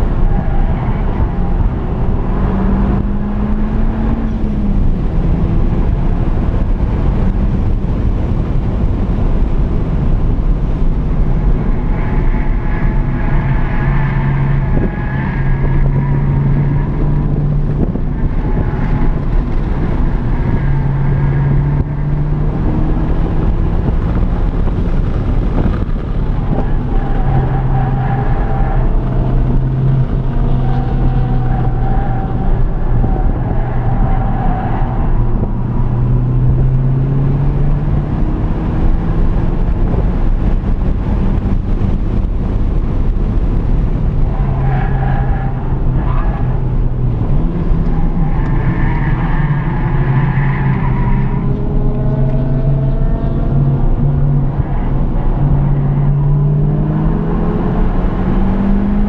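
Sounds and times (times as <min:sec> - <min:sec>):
car engine revving: 0:00.0 - 0:59.0
wind rush: 0:00.0 - 0:59.0.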